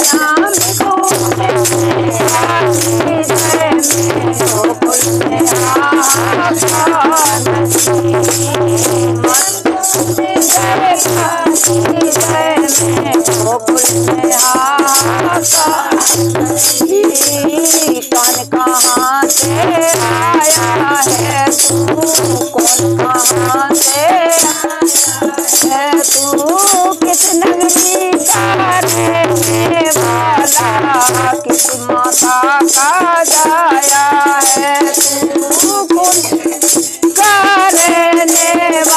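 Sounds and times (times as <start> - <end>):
rattle keeping steady beat: 0.0 - 38.9
women singing devotional song: 0.0 - 38.9.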